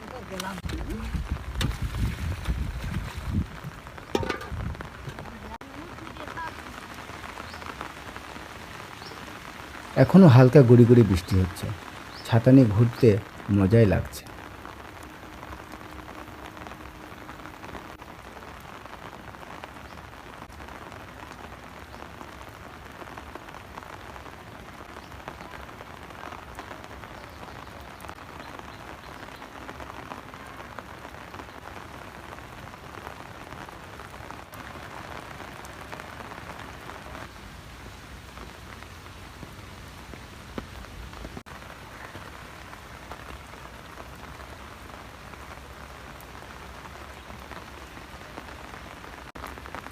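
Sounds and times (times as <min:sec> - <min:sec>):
light rain drizzle: 0:00.0 - 0:49.9.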